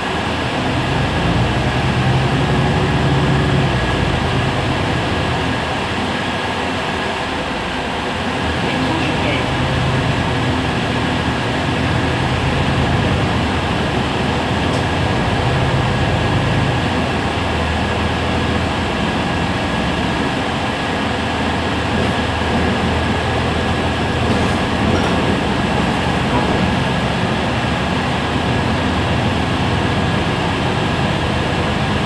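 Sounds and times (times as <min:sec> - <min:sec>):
bus engine idling: 0:00.0 - 0:32.0.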